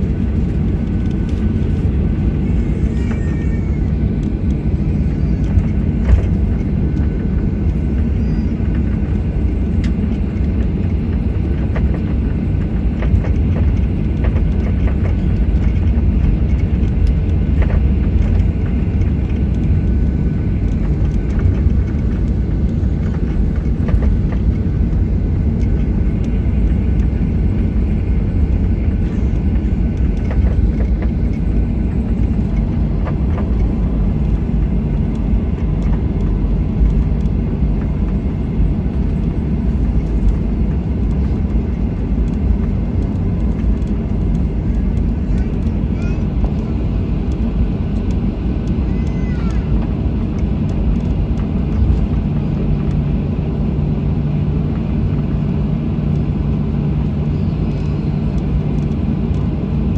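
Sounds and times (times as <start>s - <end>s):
jet cabin rumble while taxiing: 0.0s - 59.9s
steady low hum: 0.0s - 59.9s.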